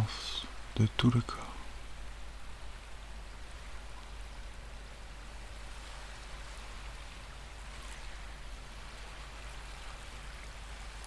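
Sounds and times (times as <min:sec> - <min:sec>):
ocean waves washing: 0:00.0 - 0:11.0.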